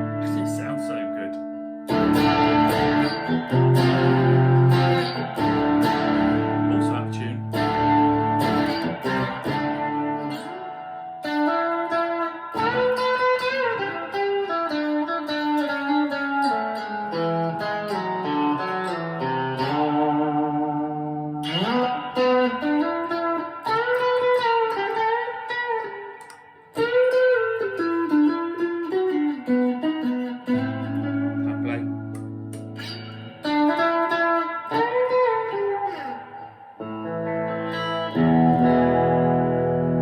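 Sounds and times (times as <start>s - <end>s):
electric guitar with string bends: 0.0s - 40.0s.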